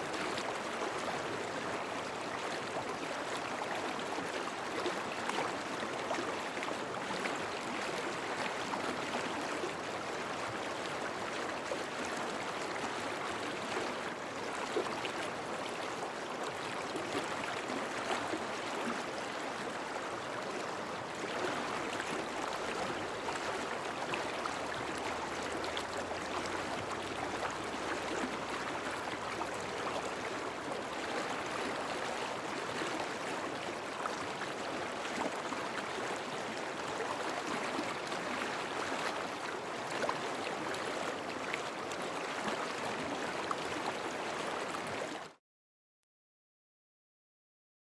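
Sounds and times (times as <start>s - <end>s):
river flowing: 0.0s - 45.1s.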